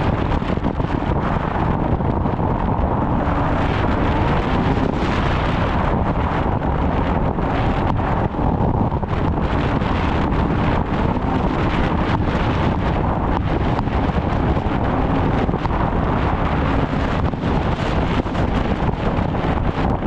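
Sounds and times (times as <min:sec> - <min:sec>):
snowmobile engine running: 0:00.0 - 0:20.0
wind noise on microphone: 0:00.0 - 0:20.0.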